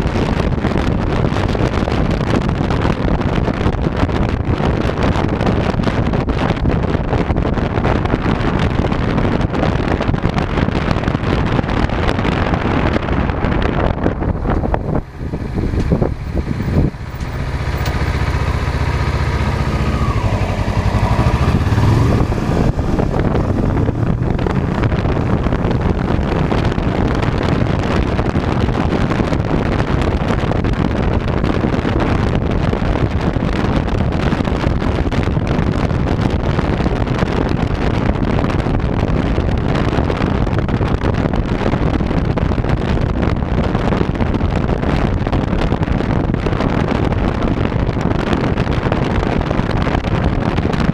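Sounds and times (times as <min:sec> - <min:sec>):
engine hum: 0:00.0 - 0:40.6, 0:43.0 - 0:50.9
wind roaring on microphone: 0:00.0 - 0:50.9.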